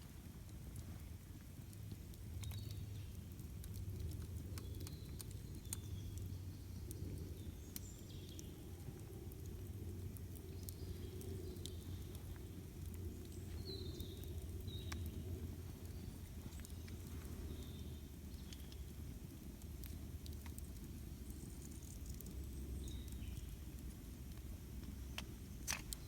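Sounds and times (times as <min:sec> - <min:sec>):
campfire crackling and popping: 0:00.0 - 0:26.0
low steady rumble: 0:00.0 - 0:26.0.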